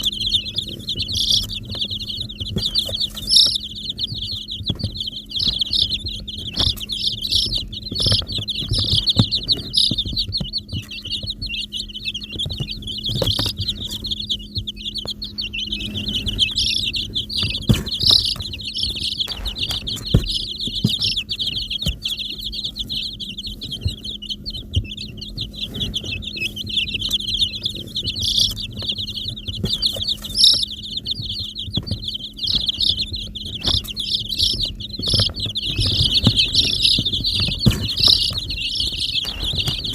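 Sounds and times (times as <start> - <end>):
baby chicks peeping: 0.0 - 39.9
faint low hum: 0.0 - 39.9.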